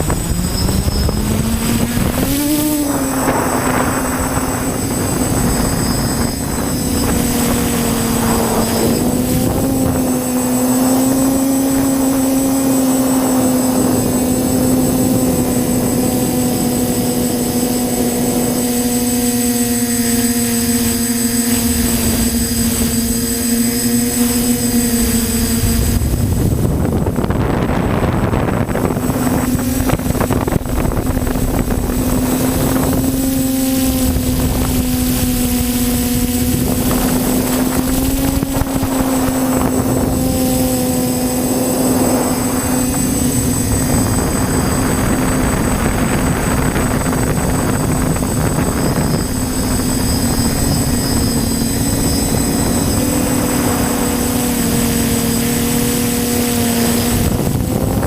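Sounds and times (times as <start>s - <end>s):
rushing air noise: 0.0s - 16.8s, 20.6s - 58.0s
drone motors humming: 0.0s - 58.0s.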